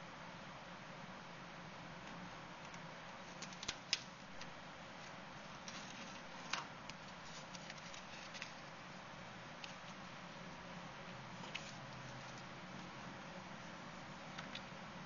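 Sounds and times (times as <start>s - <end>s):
room tone hiss: 0.0s - 15.0s.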